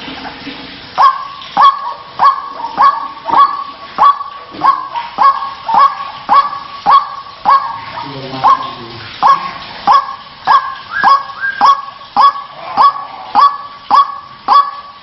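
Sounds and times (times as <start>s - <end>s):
bird harsh calls: 1.0s - 15.0s.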